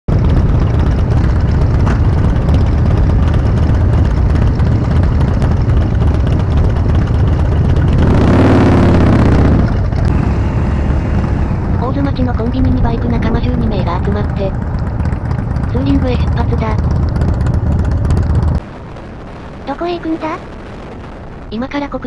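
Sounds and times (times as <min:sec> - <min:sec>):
motorcycle engines running: 0:00.1 - 0:18.7.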